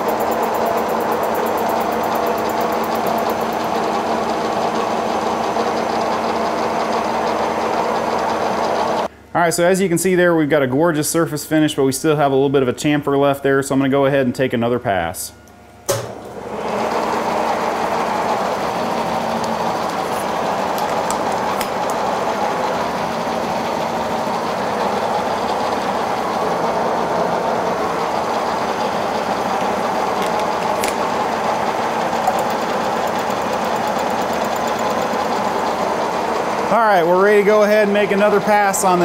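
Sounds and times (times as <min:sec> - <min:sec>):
milling machine running: 0:00.0 - 0:09.1, 0:16.0 - 0:39.0.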